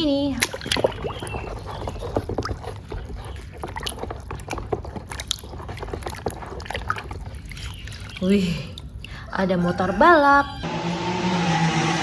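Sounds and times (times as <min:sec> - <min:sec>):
water sloshing and splashing: 0:00.0 - 0:10.2.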